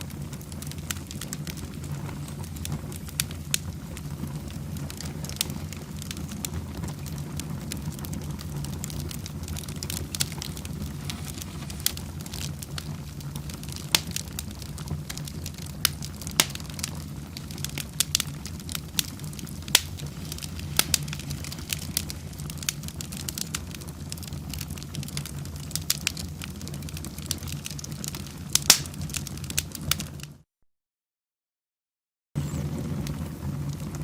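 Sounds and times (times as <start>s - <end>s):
low rumble of flames: 0.0s - 30.4s, 32.4s - 34.0s
wood fire crackling and popping: 0.0s - 30.4s, 32.4s - 34.0s.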